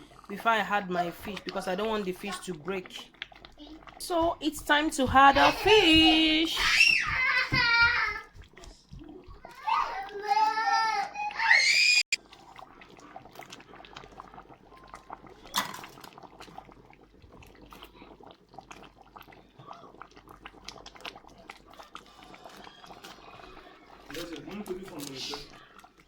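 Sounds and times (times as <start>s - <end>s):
faint simmering liquid: 0.0s - 26.0s.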